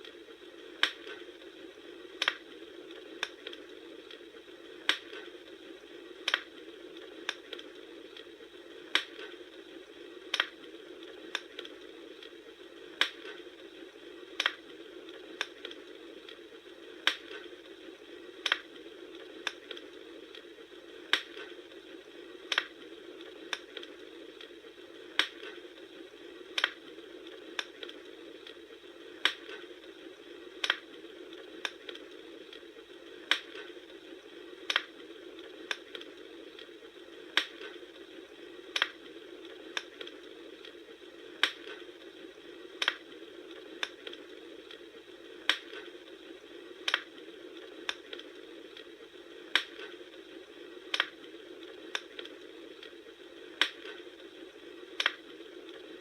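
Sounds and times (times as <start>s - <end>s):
low hiss of burning: 0.0s - 56.0s
wood fire crackling: 0.0s - 56.0s.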